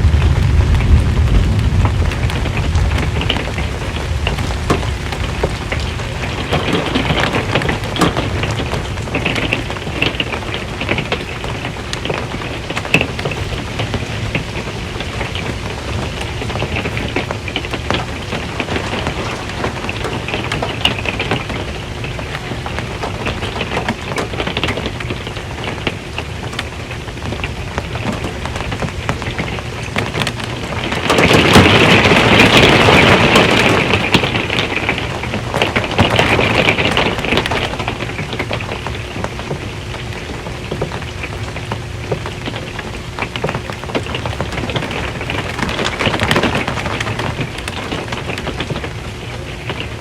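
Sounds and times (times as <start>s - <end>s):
rain drumming on a metal roof: 0.0s - 50.0s
thunder rumbling: 0.0s - 50.0s.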